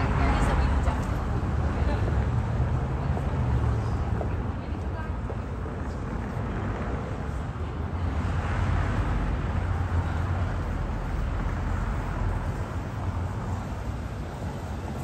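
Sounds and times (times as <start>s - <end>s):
street traffic rumble: 0.0s - 15.0s
vehicle passing: 0.0s - 15.0s.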